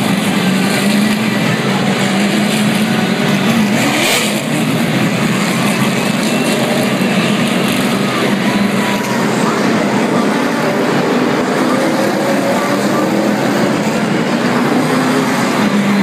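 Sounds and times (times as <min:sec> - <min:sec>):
race cars roaring past: 0:00.0 - 0:16.0.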